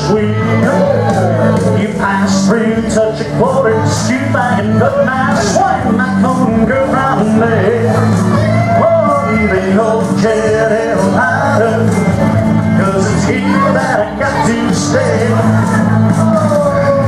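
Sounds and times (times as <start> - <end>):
caller singing: 0.0 - 17.0
square-dance music: 0.0 - 17.0.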